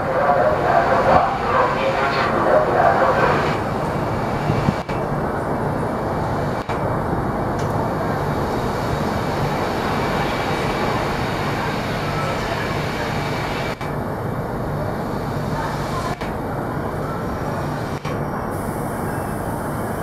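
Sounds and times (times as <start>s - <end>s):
low train hum: 0.0s - 20.0s
train wheels rumbling on rail: 0.0s - 20.0s.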